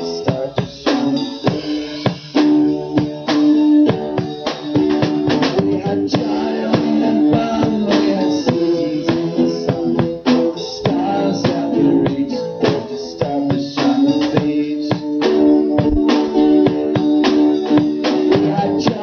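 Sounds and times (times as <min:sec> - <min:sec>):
drum kit beat: 0:00.0 - 0:19.0
electric guitar melody: 0:00.0 - 0:19.0.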